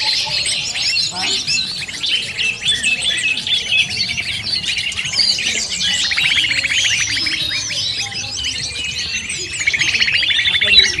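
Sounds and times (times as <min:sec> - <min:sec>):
rapid bird trill: 0:00.0 - 0:11.0
small birds chirping and calling: 0:00.0 - 0:11.0.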